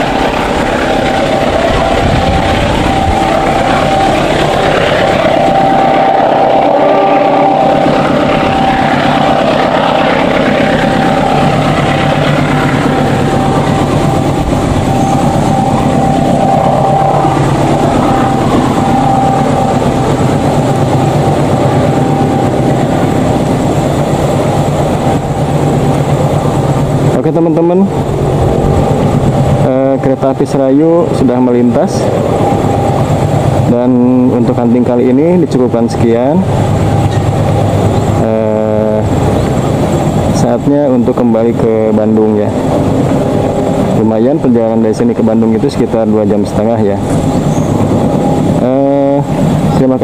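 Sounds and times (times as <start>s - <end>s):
thin steady whine: 0.0s - 50.0s
train rumble and wheel clatter: 0.0s - 50.0s.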